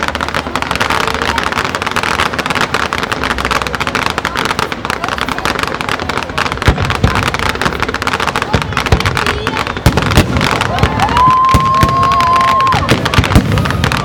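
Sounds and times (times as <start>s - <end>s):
firework bang: 0.0s - 14.0s
fireworks crackling: 0.0s - 14.0s.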